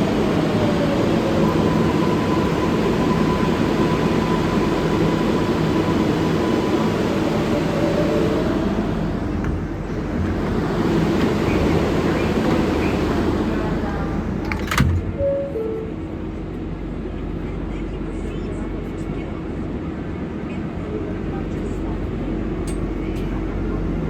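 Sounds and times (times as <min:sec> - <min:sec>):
subway train rail and wheel noise: 0:00.0 - 0:24.0.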